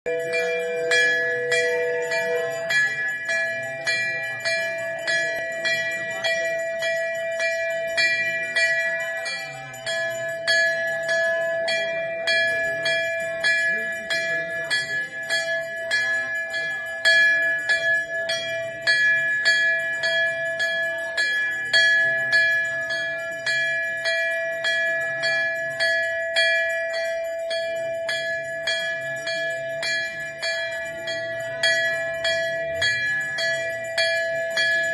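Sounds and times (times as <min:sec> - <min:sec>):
brass bell ringing: 0:00.0 - 0:34.9.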